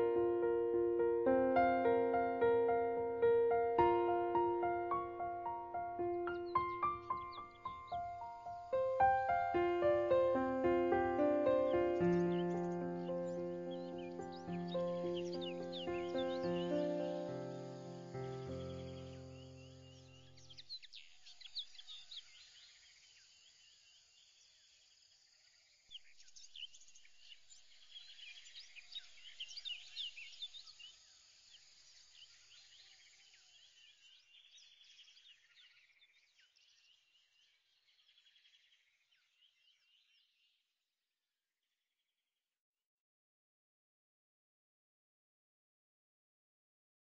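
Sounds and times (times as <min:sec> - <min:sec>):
birds chirping and trilling: 0:00.0 - 0:23.0, 0:25.9 - 0:40.6.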